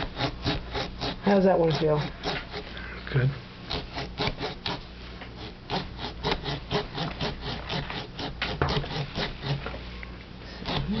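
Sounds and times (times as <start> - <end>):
carving tool cutting pumpkin rind: 0.0 - 2.8, 3.6 - 9.8, 10.5 - 11.0.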